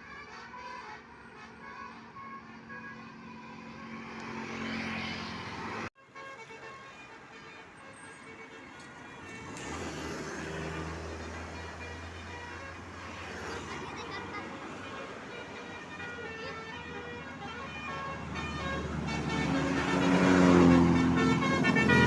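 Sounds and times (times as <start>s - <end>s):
heavy road traffic: 0.0s - 22.0s.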